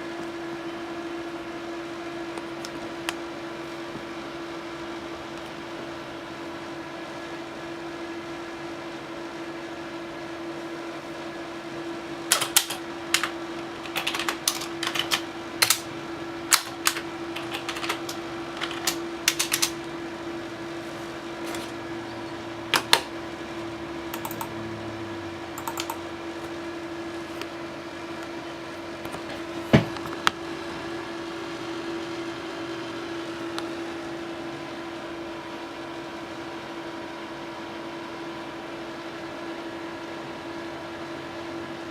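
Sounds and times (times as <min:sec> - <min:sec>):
cooling fans humming: 0:00.0 - 0:41.9.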